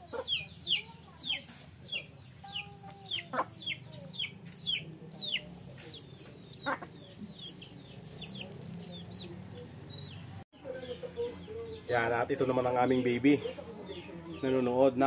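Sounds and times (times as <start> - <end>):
hen clucking: 0.0 - 14.5
chick peeping: 0.0 - 15.0.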